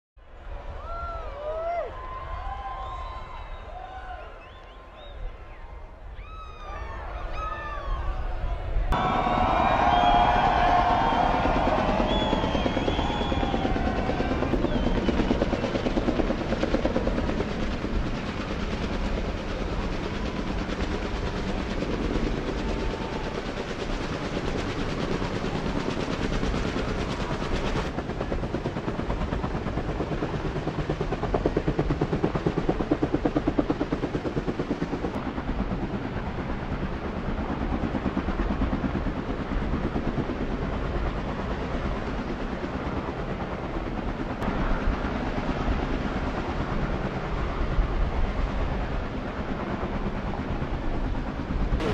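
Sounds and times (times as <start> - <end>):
helicopter rotor chopping: 8.7 - 51.9.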